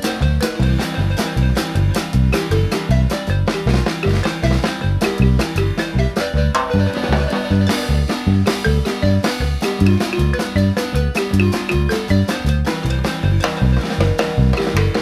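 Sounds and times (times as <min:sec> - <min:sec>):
bouncing bass line: 0:00.0 - 0:15.0
drum kit: 0:00.0 - 0:15.0
marimba melody: 0:00.0 - 0:15.0.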